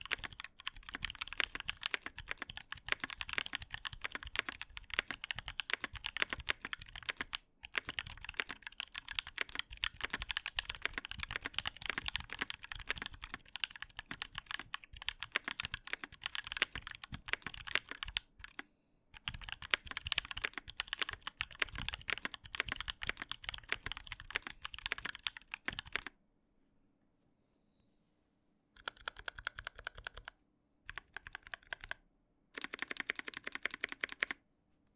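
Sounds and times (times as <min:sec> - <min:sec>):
fast typing on mechanical keyboard: 0:00.0 - 0:18.6, 0:19.2 - 0:26.1, 0:28.8 - 0:30.3, 0:30.9 - 0:32.0, 0:32.6 - 0:34.4.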